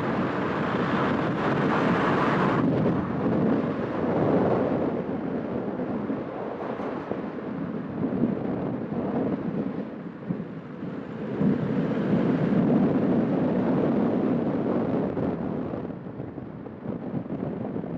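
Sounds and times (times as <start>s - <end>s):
road and wind noise: 0.0s - 17.9s.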